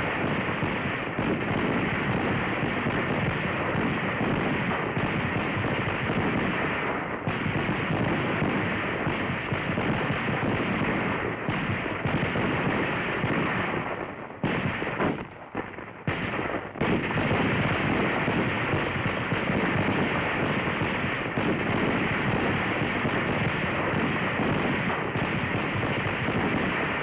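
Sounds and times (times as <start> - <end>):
rifle shots crackling: 0.0 - 27.0.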